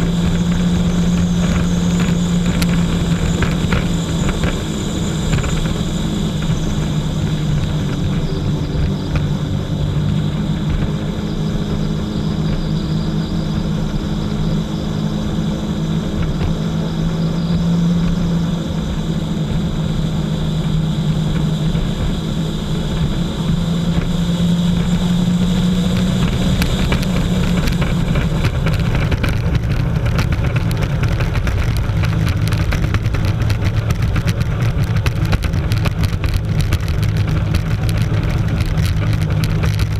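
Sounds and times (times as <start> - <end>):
jet ski engine running: 0.0 - 39.9.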